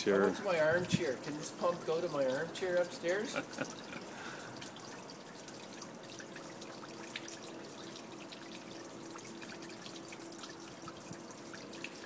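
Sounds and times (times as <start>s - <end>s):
faint steady hum: 0.0s - 12.0s
water pouring into plastic jug: 0.1s - 12.0s.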